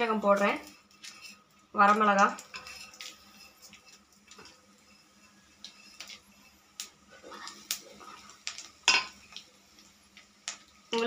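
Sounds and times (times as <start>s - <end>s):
seeds crackling in hot oil: 0.0s - 11.0s.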